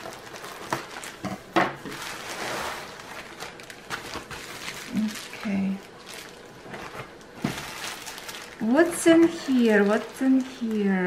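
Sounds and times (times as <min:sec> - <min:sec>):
plastic rustling and crinkling: 0:00.0 - 0:11.0.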